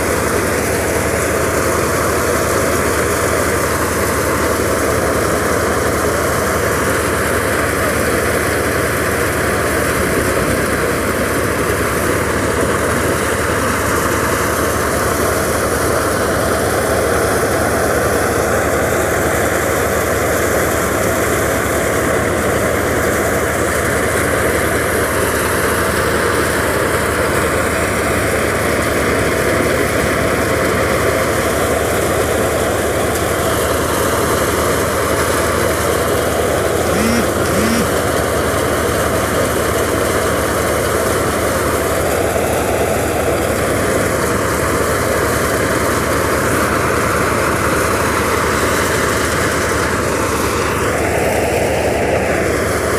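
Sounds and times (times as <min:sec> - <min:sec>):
tractor engine and thresher running: 0:00.0 - 0:52.9.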